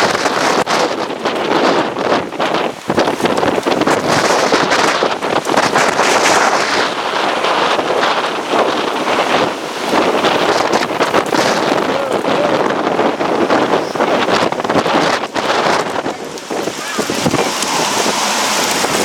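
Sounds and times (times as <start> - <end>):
storm wind on microphone: 0.0 - 19.0.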